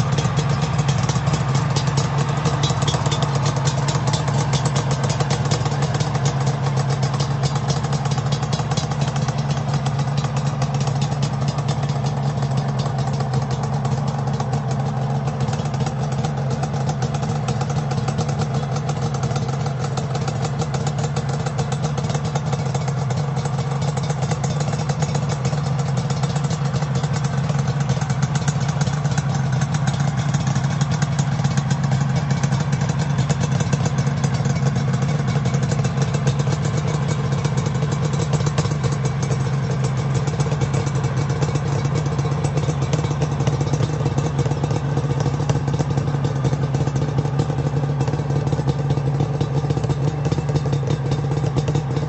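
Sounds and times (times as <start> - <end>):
motorcycle engine idling: 0.0 - 52.0.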